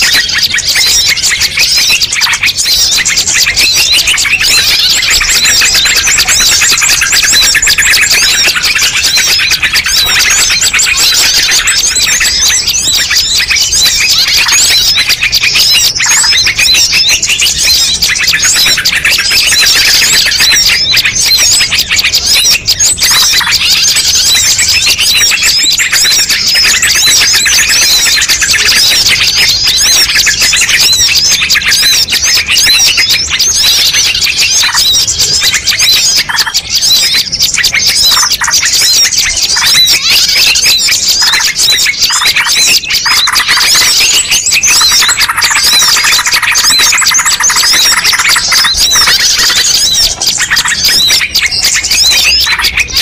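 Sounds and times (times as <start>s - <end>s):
many small birds chirping: 0.0s - 53.0s.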